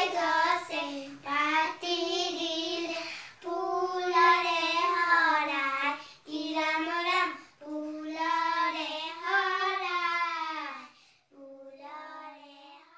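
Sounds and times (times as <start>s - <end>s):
girls singing together: 0.0s - 12.9s.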